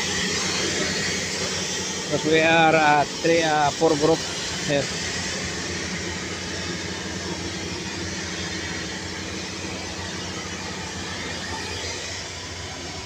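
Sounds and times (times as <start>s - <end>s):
steady machine drone: 0.0s - 13.0s.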